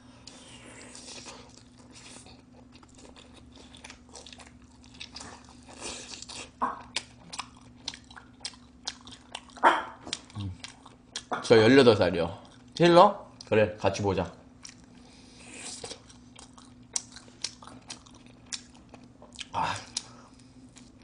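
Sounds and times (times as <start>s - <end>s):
person chewing and crunching pizza: 0.0s - 13.6s, 14.2s - 21.0s.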